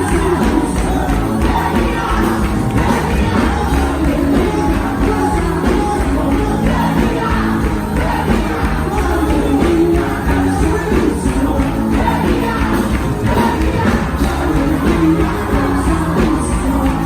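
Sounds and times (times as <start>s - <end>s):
singing over a steady beat: 0.0s - 17.0s.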